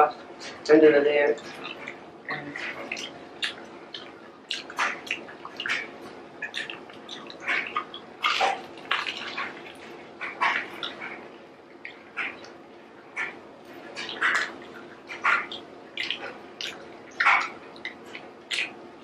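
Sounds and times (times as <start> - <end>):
people chewing and biting: 1.4 - 18.8
wet smacking and mouth clicks: 1.4 - 18.8.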